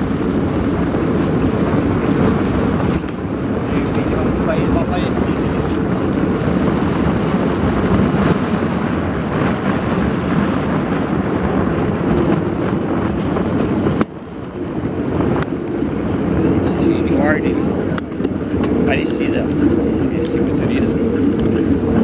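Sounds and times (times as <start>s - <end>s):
bike tyres rolling on asphalt: 0.0s - 22.0s
wind buffeting microphone: 0.0s - 22.0s.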